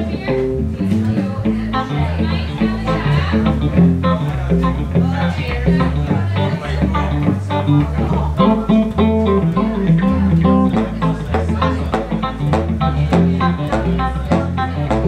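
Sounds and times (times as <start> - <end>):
electric bass guitar: 0.0 - 15.0
electric guitar: 0.0 - 15.0.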